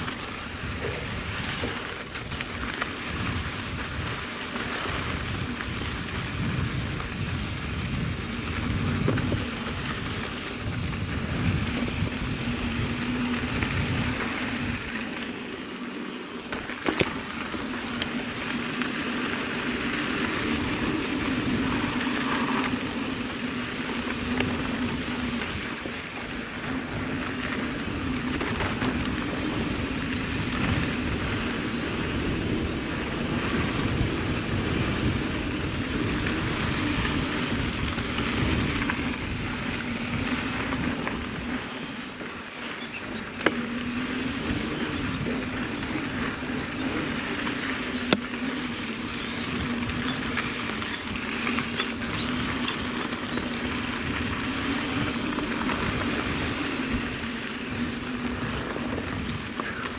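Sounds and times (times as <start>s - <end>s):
wind buffeting microphone: 0.0s - 42.2s, 42.9s - 59.9s
bike tyres rolling on dirt: 0.0s - 59.9s.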